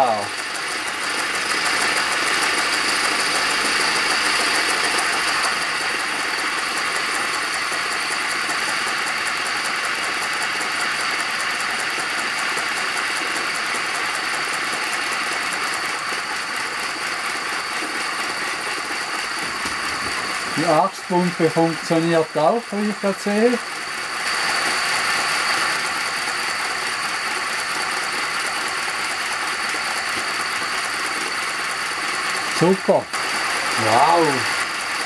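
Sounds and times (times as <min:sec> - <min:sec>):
steady hiss of steam: 0:00.0 - 0:35.0
steam locomotive exhaust beats: 0:00.0 - 0:35.0.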